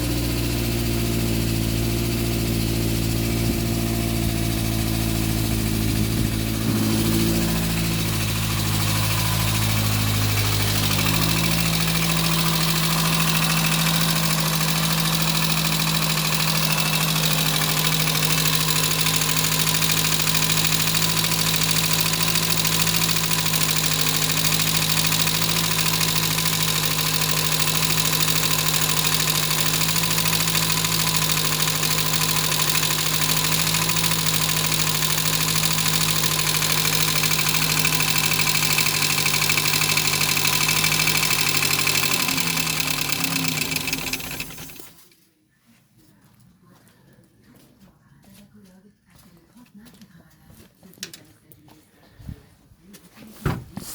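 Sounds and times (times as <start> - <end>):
car engine running steadily: 0.0 - 44.9.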